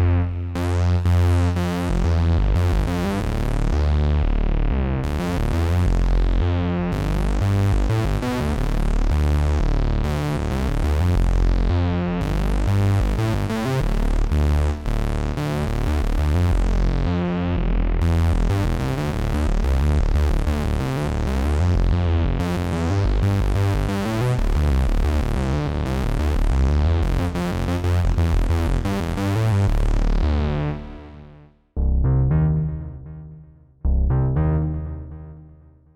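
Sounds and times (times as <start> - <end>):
analog synthesizer bass: 0.0 - 35.9.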